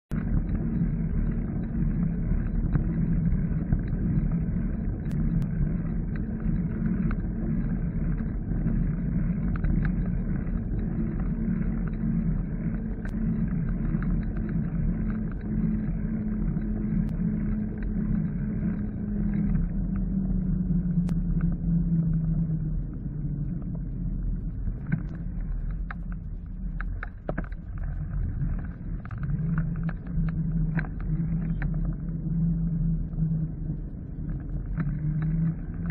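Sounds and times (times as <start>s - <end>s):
low hum: 0.0s - 35.9s
bicycle tyres on road: 0.1s - 35.9s
wind noise: 0.1s - 35.9s.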